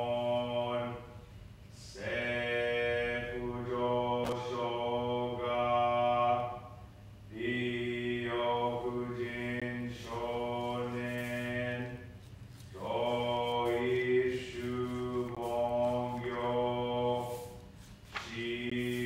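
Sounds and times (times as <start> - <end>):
man chanting in held tones: 0.0 - 12.2, 12.8 - 19.0.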